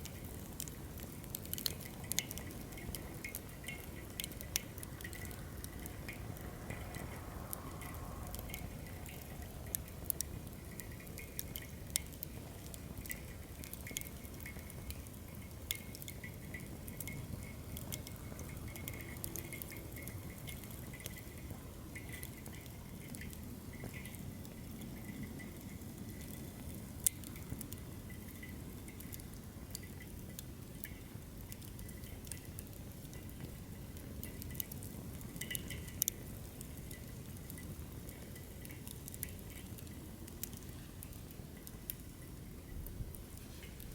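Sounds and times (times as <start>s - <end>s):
fire crackles and pops: 0.0s - 43.9s.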